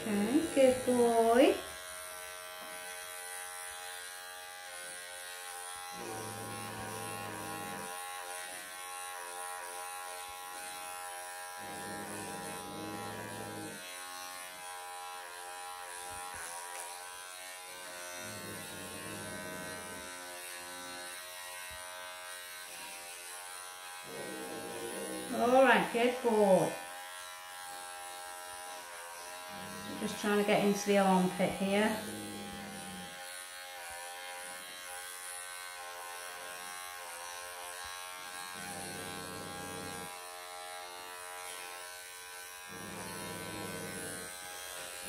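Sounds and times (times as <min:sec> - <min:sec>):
electric clippers buzzing: 0:00.0 - 0:45.0.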